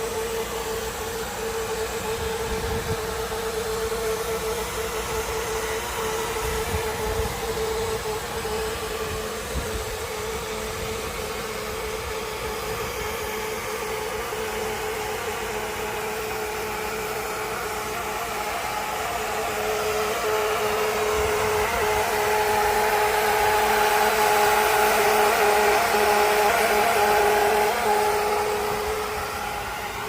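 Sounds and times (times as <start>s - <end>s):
air conditioner humming: 0.0s - 30.0s.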